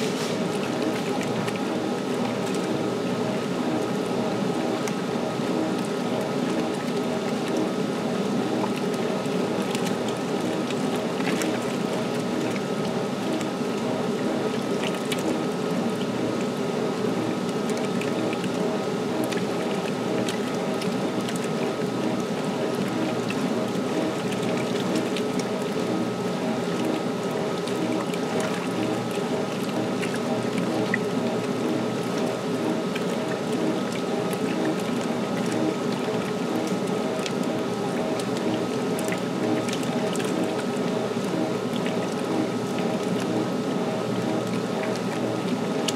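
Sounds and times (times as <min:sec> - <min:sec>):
low steady hum: 0:00.0 - 0:45.9
water pouring into washer tub: 0:00.0 - 0:45.9.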